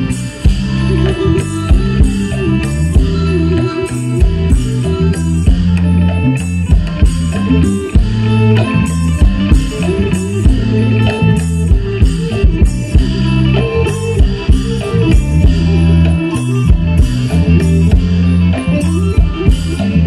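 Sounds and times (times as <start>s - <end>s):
drums and cymbals: 0.0s - 20.0s
folk band playing melody: 0.0s - 20.0s.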